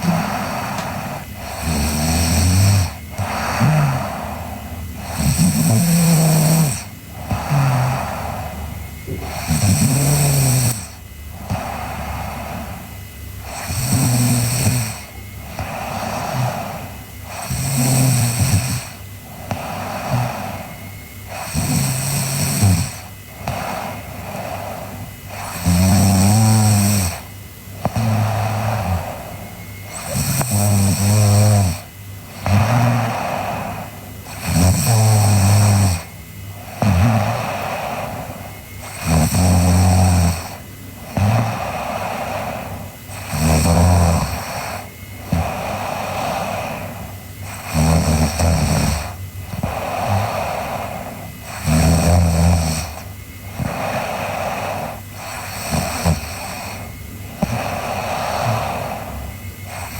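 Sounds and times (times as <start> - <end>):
girl snoring: 0.0 - 59.9
soft breath: 0.0 - 59.9.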